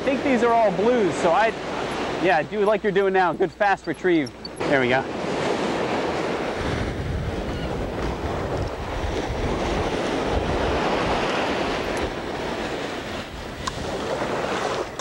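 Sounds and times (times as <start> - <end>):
ocean surf breaking on beach: 0.0 - 15.0
wind buffeting microphone: 0.0 - 15.0.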